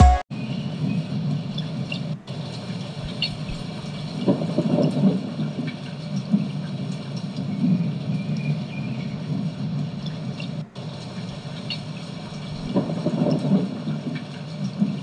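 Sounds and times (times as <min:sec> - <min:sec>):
steady rain: 0:00.7 - 0:15.0.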